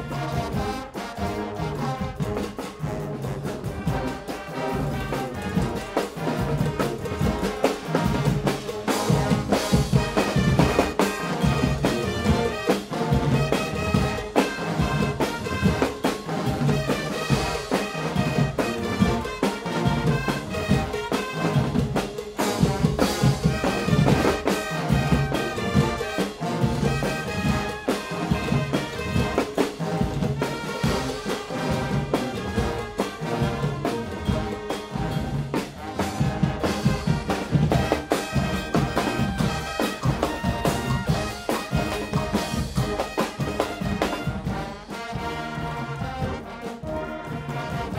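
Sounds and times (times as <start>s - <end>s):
brass section playing: 0.0s - 47.9s
drums beating: 0.0s - 47.9s.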